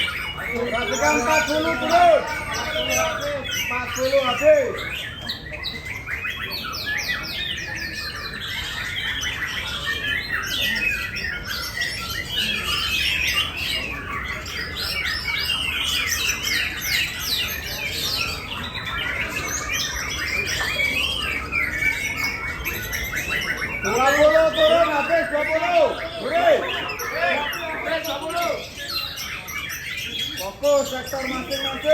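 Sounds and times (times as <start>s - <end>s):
songbirds chirping and trilling: 0.0s - 31.9s.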